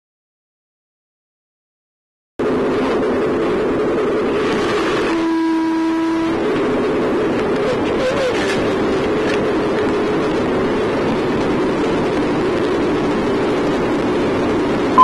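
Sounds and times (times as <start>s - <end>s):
locomotive cab running noise: 2.4s - 15.0s.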